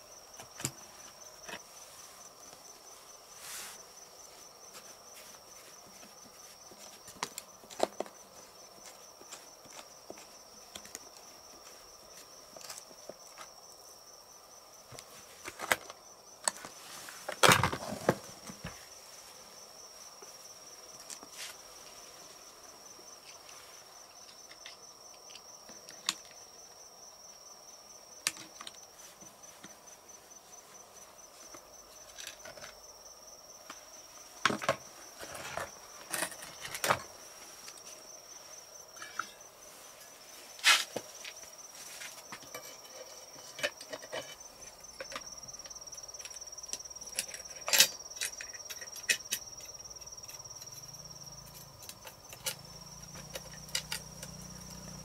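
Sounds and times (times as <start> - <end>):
cricket trilling: 0.0 - 55.0.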